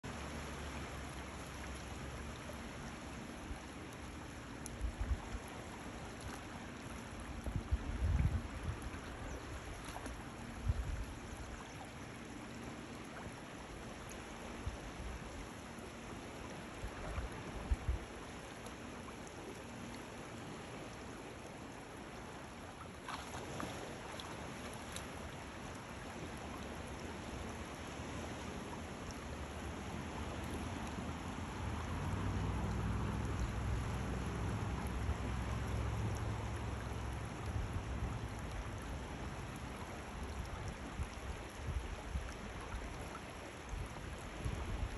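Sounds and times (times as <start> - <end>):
water running over rocky shore: 0.0 - 44.9.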